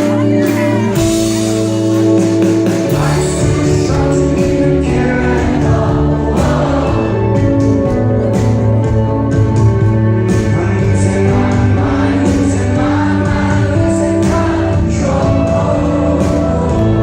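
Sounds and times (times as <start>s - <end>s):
person singing: 0.0s - 17.0s
rock band playing live: 0.0s - 17.0s.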